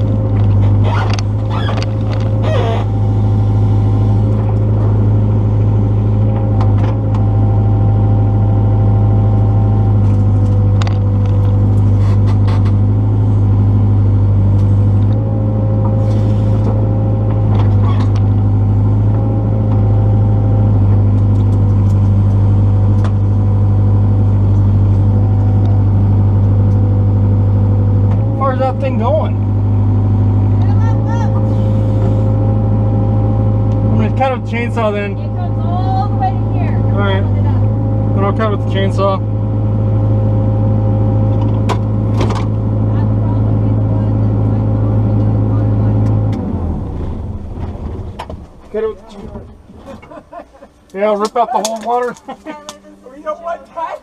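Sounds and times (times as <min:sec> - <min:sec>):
excavator diesel engine drone: 0:00.0 - 0:54.0.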